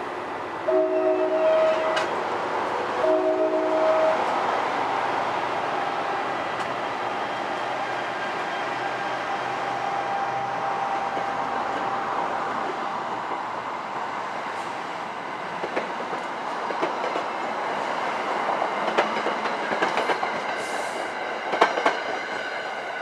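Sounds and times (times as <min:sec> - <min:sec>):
train coaches rolling past: 0:00.0 - 0:23.0.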